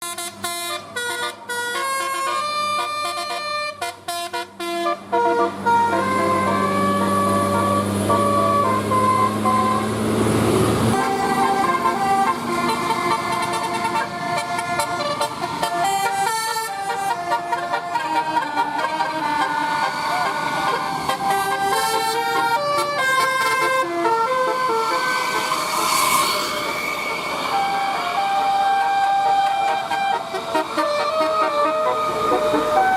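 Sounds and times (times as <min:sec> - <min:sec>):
multi-tone air horn melody: 0:00.0 - 0:10.1, 0:10.9 - 0:32.9
bus engine running: 0:00.0 - 0:32.9.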